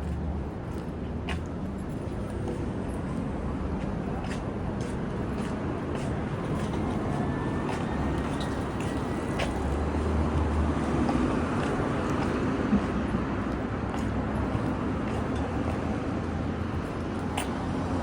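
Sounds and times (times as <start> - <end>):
vehicle low rumble: 0.0 - 18.0.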